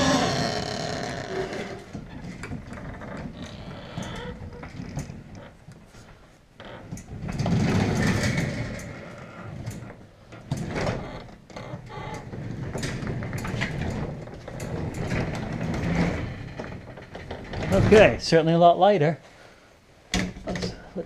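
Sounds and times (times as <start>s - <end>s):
garage door rollers rumbling: 0.0s - 5.6s, 6.6s - 18.4s.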